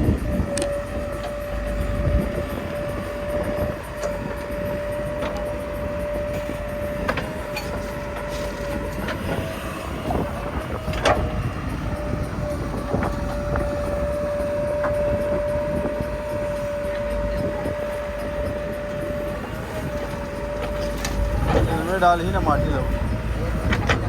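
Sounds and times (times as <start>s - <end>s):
diesel engine whining: 0.0s - 24.0s
metal clanks and knocks: 0.2s - 24.0s.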